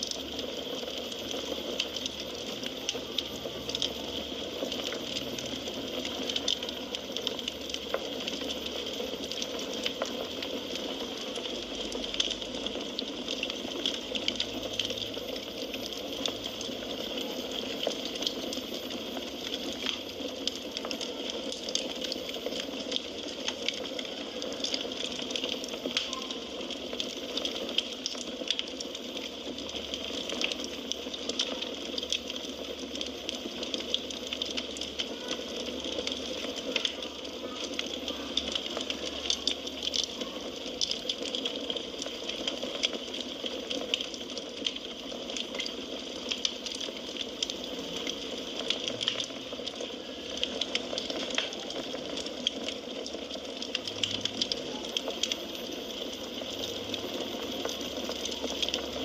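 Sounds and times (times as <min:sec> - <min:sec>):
fire crackling and popping: 0:00.0 - 0:59.0
fire hissing: 0:00.0 - 0:59.0.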